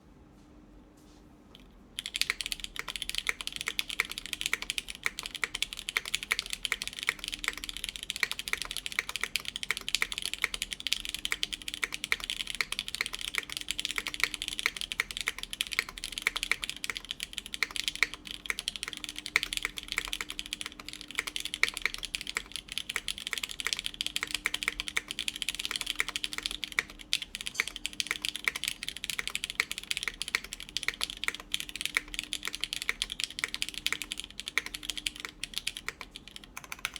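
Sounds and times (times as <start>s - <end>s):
fast typing on mechanical keyboard: 2.0s - 36.9s.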